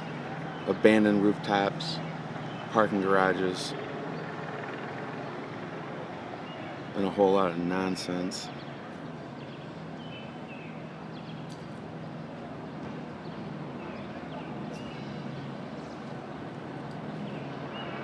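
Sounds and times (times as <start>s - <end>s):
rushing traffic noise: 0.0s - 18.0s.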